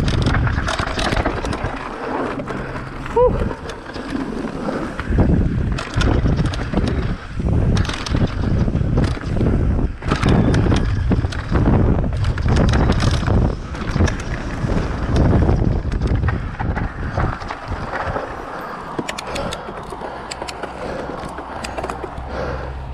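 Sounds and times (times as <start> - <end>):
bike rattling over bumps: 0.0 - 22.9
bike tyre noise on dirt: 0.0 - 22.9
wind buffeting on microphone: 0.0 - 22.9.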